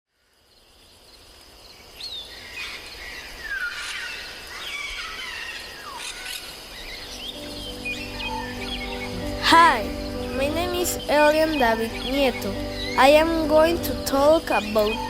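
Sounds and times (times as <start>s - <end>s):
high insect drone: 0.2s - 15.0s
birds chirping and whistling: 2.4s - 15.0s.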